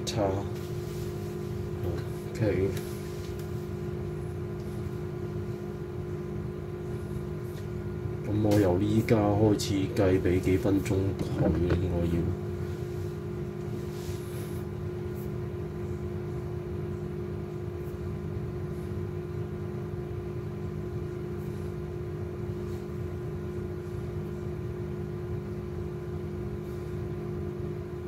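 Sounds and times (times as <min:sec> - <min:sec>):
machine hum with two low tones: 0:00.0 - 0:28.0.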